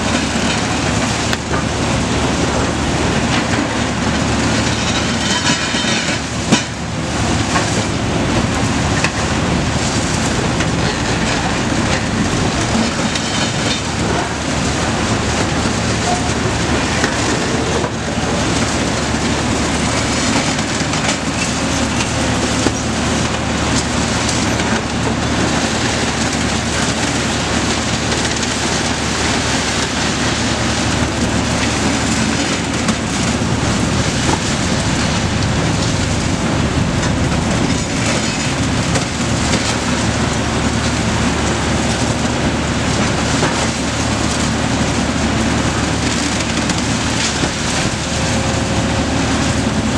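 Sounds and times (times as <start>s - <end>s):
diesel engines under load: 0.0s - 49.9s.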